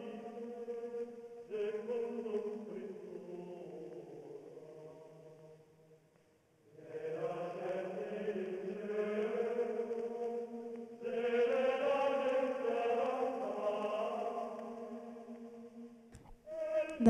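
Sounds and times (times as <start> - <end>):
choir chanting long notes: 0.0 - 5.6, 6.7 - 17.0.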